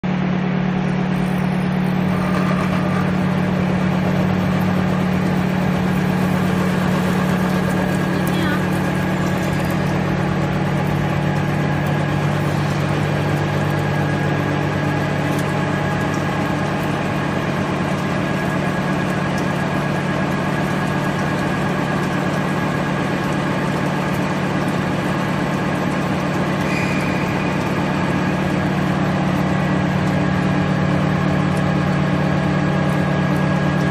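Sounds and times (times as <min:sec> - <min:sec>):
milling machine hum: 0:00.1 - 0:33.9.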